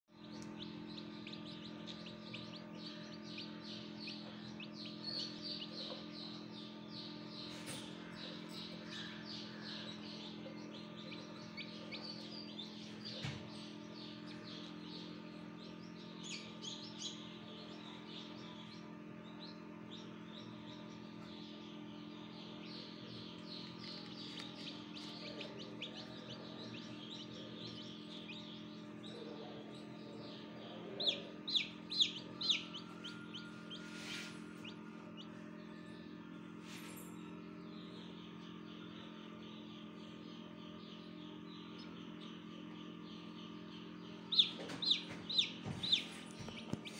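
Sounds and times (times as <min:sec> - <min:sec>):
chicks peeping: 0:00.1 - 0:46.9.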